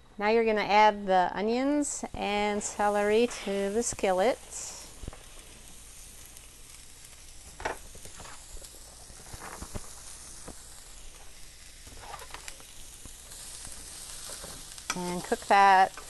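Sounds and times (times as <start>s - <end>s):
vegetables sizzling in oil: 1.8s - 16.0s.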